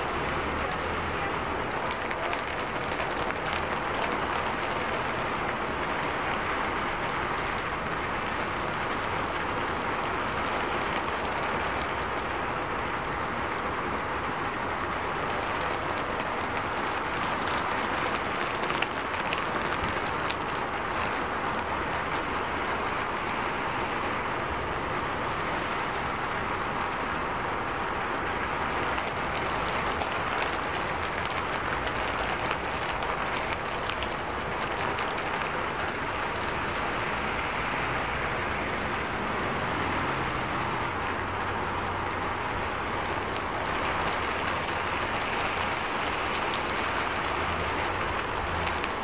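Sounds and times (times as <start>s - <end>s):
city traffic: 0.0s - 49.0s
heavy rain hissing: 0.0s - 49.0s.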